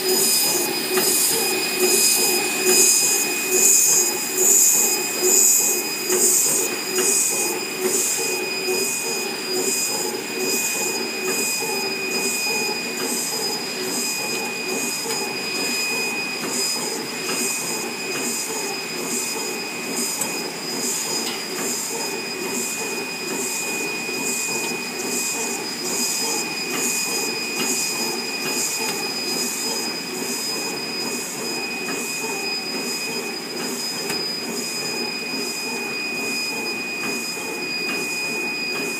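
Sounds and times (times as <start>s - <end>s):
rhythmic high-pitched pulsing: 0.0s - 38.7s
machine mechanical hum: 0.0s - 38.9s
thin high whines: 0.0s - 38.9s.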